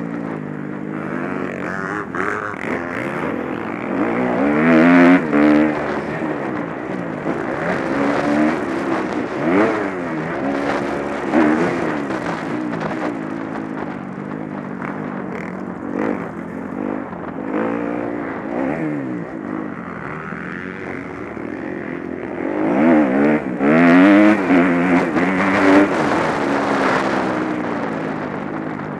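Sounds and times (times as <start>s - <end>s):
motocross bike engines revving: 0.0s - 28.9s.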